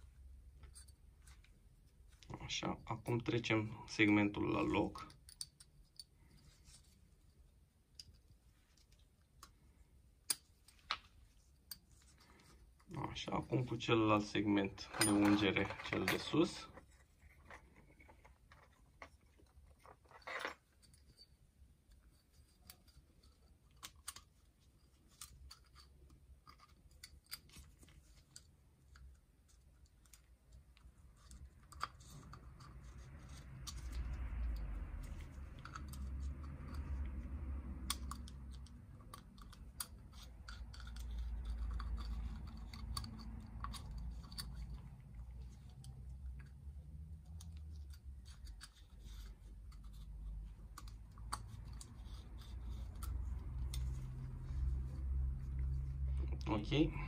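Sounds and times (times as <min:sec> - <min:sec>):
light metallic clicks and scratches: 0:00.0 - 0:57.0.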